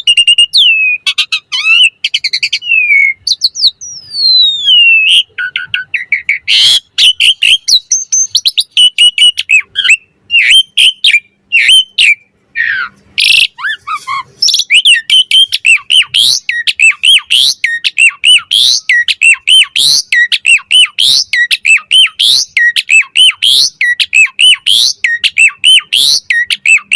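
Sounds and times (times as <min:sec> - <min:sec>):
starling singing whistles: 0:00.0 - 0:26.9.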